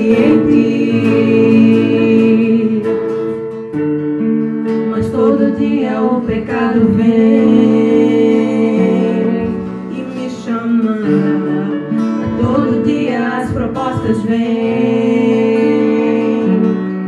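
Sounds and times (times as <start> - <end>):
people singing: 0.0 - 3.6, 4.7 - 17.0
acoustic guitar strumming: 0.0 - 17.0.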